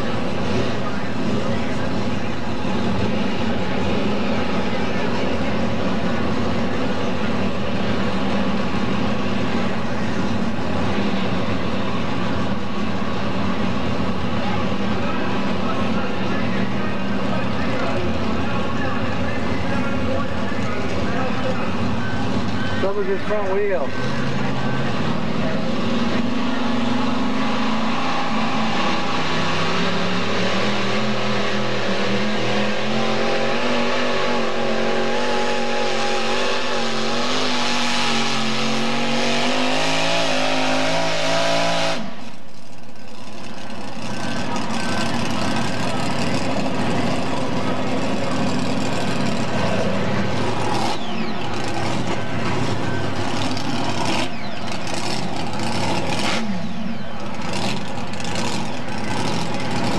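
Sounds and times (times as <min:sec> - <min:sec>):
rough noisy engine: 0:00.0 - 0:59.9
tractor engine at high revs: 0:00.0 - 0:59.9.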